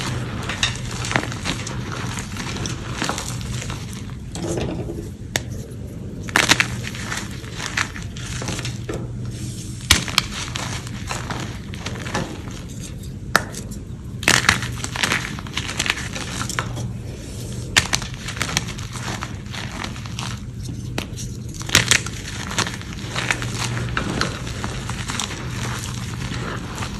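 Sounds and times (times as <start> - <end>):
hands crushing chalk: 0.0 - 4.3, 6.3 - 8.9, 9.8 - 16.9, 17.5 - 26.9.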